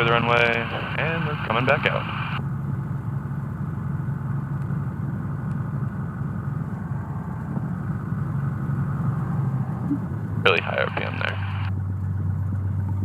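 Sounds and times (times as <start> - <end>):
small plane engine drone: 0.0 - 13.0.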